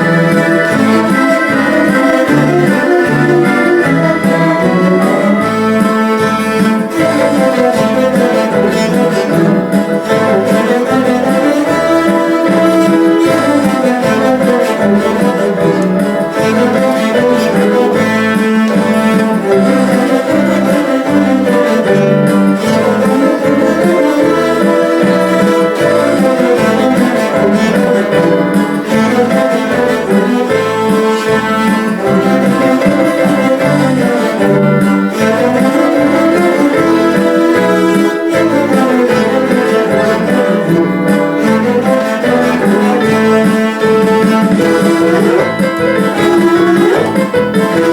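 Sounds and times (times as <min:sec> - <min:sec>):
cello ensemble playing: 0:00.0 - 0:47.9.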